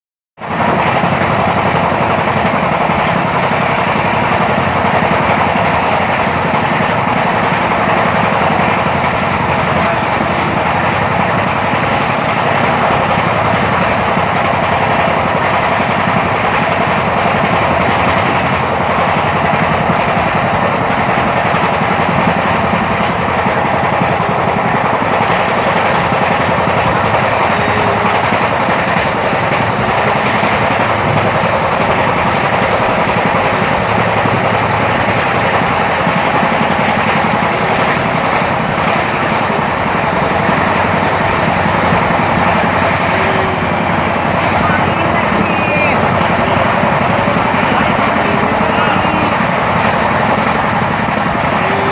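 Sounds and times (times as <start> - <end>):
train wheels rumbling on rails: 0.4 - 51.9.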